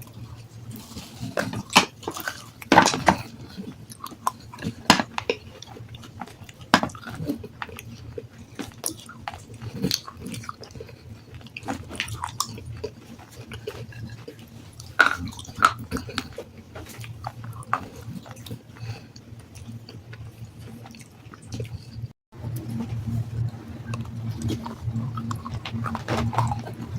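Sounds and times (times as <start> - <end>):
chewing and crunching stone: 0.0 - 26.9
low steady hum: 0.0 - 26.9.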